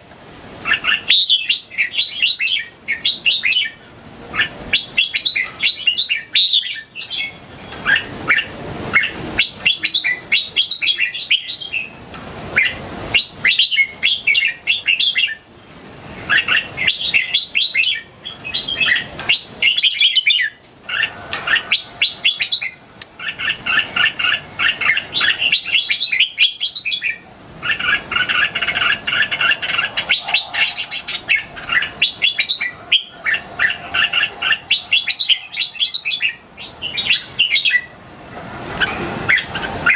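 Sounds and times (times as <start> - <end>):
bird chattering song: 0.6 - 12.0, 12.6 - 15.5, 16.2 - 38.0.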